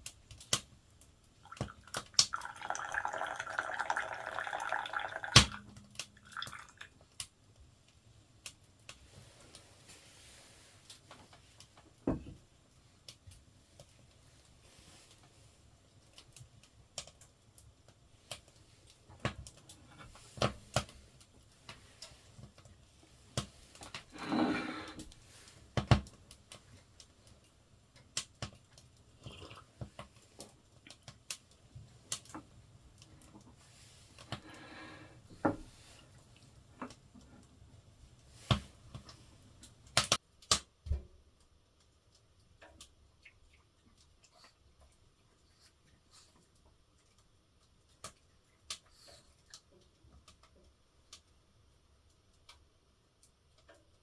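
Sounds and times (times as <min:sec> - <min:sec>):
firewood crackling in stove: 0:00.0 - 0:54.0.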